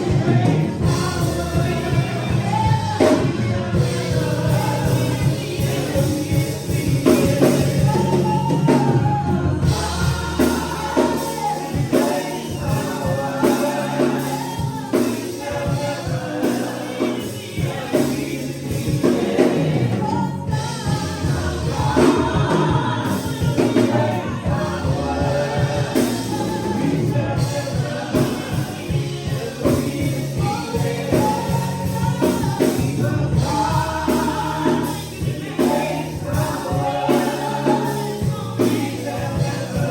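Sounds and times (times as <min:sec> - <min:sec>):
band with drums bass and tambourine: 0:00.0 - 0:39.9
choir singing gospel music: 0:00.0 - 0:39.9.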